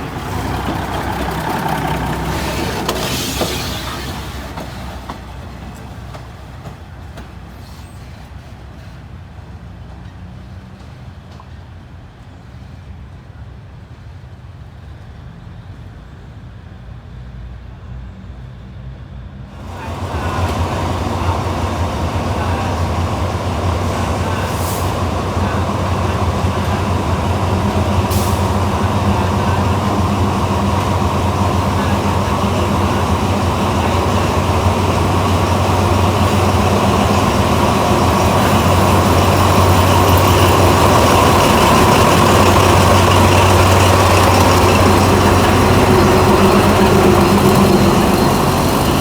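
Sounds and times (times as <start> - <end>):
diesel train engine rumbling: 0.0 - 49.0.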